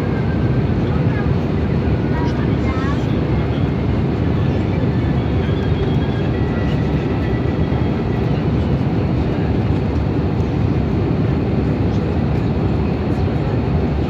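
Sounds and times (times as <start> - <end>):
airliner cabin noise: 0.0 - 14.0.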